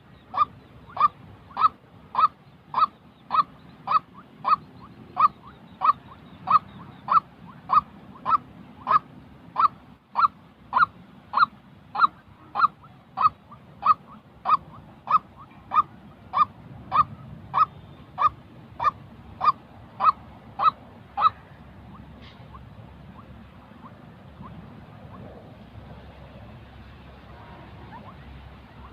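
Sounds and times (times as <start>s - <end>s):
waterhen calling: 0.0s - 25.3s, 27.2s - 28.9s.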